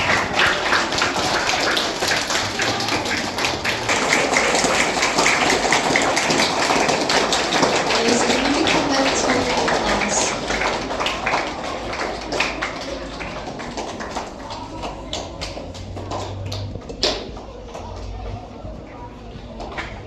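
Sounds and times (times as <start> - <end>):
audience clapping: 0.0 - 18.2
faint voices: 0.0 - 20.0.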